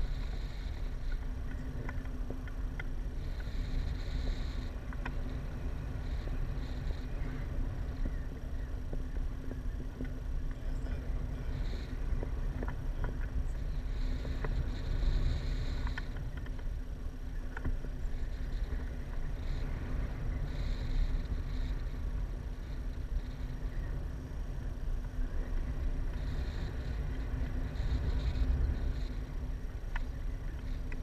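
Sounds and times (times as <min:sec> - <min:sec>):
faint clicks: 0:00.0 - 0:22.0, 0:25.0 - 0:31.0
wind buffeting microphone: 0:00.0 - 0:31.0.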